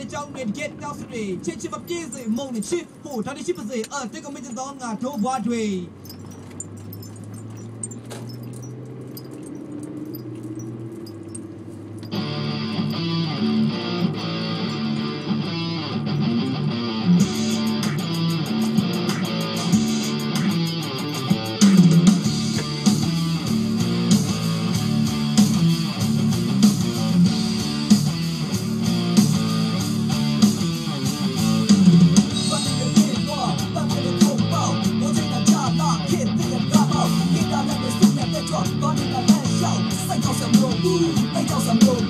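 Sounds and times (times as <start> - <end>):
car humming: 0.0 - 42.0
guitar music with bass: 3.8 - 42.0.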